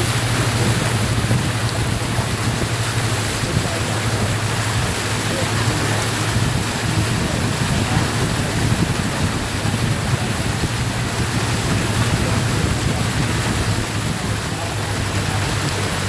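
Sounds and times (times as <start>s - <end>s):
boat motor running: 0.0s - 16.0s
wind and water rushing: 0.0s - 16.0s.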